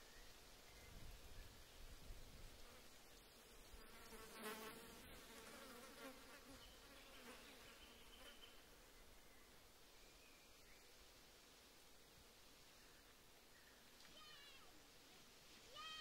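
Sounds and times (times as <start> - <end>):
faint insect-like buzz: 0.0 - 15.8.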